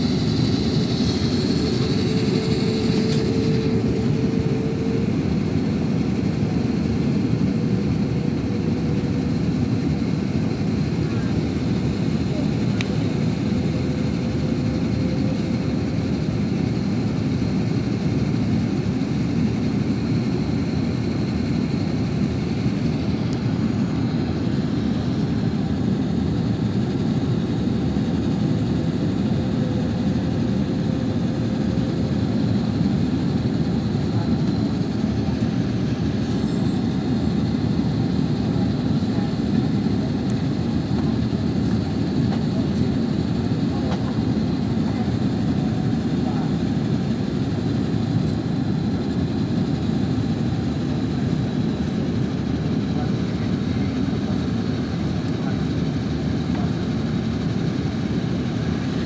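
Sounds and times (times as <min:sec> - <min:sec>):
airplane cabin airflow and engine noise: 0:00.0 - 0:59.0
faint steady whine: 0:00.0 - 0:59.0.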